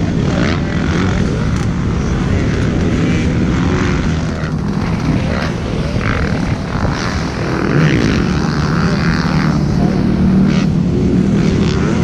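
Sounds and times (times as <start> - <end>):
distant dirt bike engine: 0.0 - 12.0
wind buffeting microphone: 0.0 - 12.0.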